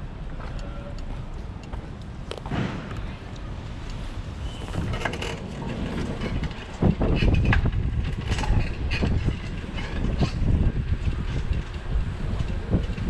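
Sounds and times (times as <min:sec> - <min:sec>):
bicycle rattling over rough street: 0:00.0 - 0:13.0.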